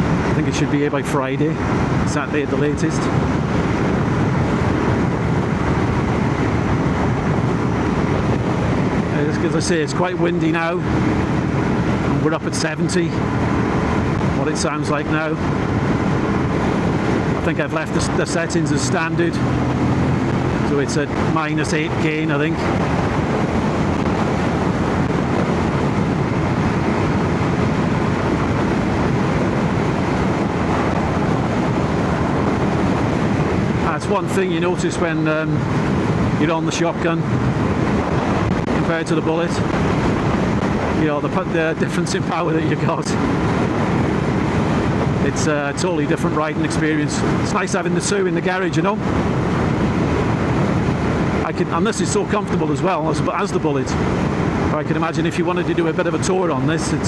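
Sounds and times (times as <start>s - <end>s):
road noise: 0.0s - 57.0s
wind rush: 0.0s - 57.0s.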